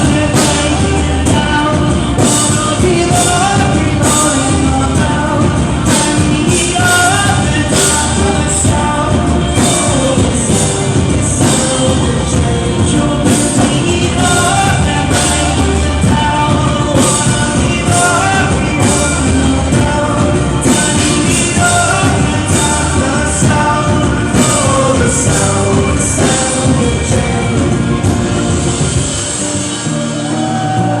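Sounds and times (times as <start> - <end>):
drum beat with cymbal hits: 0.0 - 31.0
live band music: 0.0 - 31.0.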